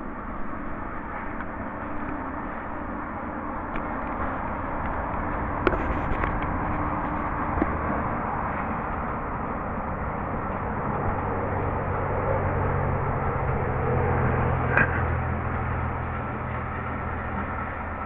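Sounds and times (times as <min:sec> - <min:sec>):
distant mowing machine rumble: 0:00.0 - 0:18.0.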